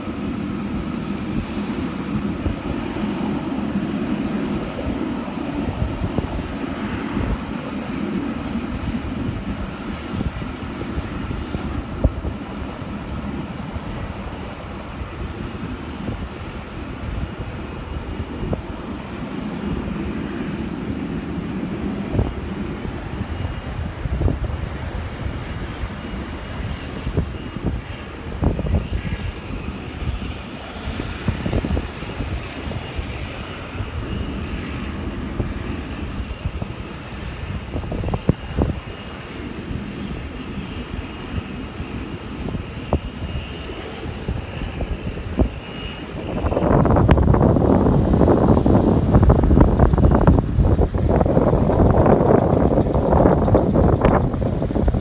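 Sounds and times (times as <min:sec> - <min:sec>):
jet airliner engines running: 0:00.0 - 0:55.0.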